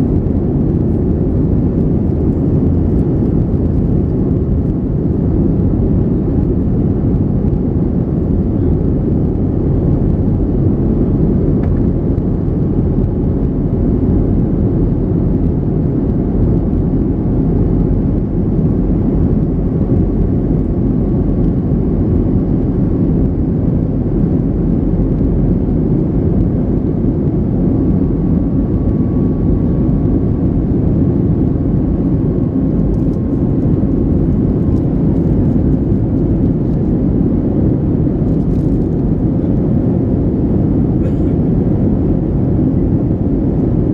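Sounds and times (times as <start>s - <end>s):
airplane cabin engine hum: 0.0s - 43.9s.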